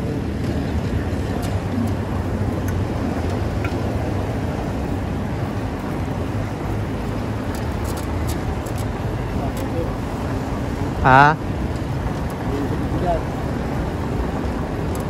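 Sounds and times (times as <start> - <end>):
wind rush over microphone: 0.0 - 15.0.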